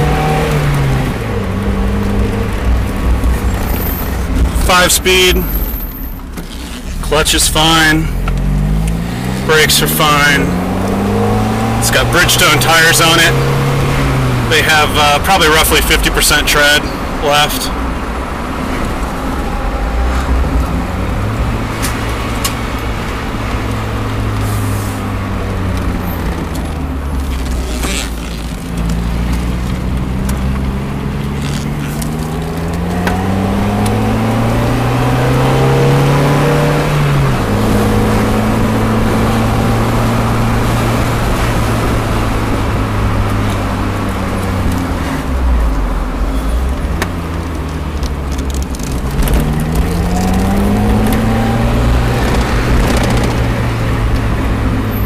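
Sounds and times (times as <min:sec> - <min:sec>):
car engine while driving: 0:00.0 - 0:55.0
road noise: 0:00.0 - 0:55.0.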